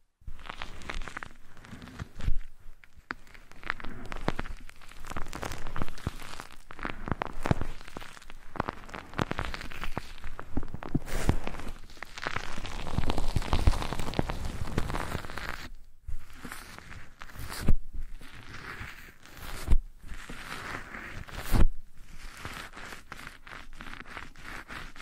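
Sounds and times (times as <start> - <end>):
scratching against microphone: 0.0 - 25.0.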